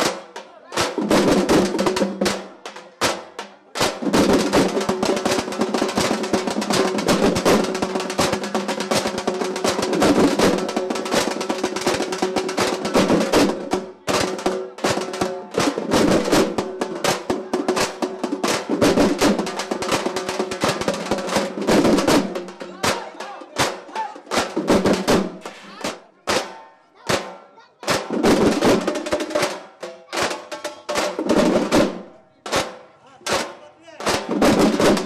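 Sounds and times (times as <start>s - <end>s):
group of drummers beating drums: 0.0s - 35.0s.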